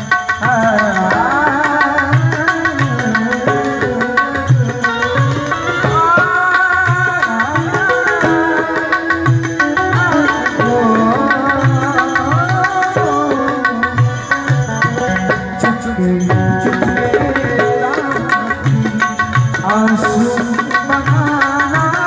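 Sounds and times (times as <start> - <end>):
harmonium: 0.0 - 22.0
tabla beat: 0.0 - 22.0.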